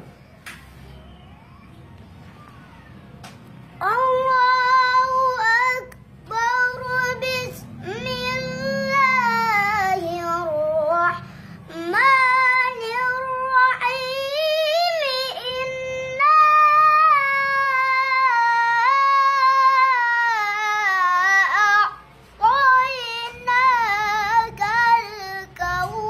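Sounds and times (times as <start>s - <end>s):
boy reciting melodically: 3.8s - 26.0s.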